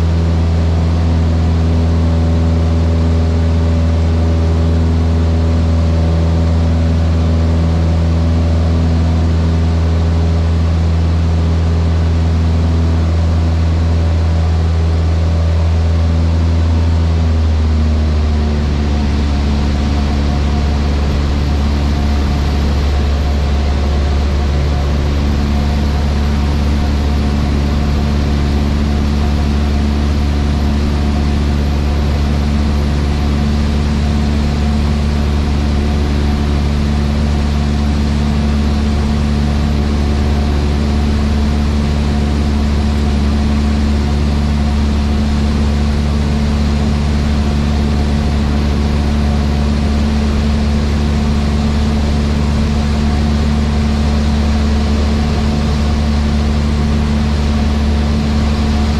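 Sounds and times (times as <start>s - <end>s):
airplane engine and propeller: 0.0s - 58.9s.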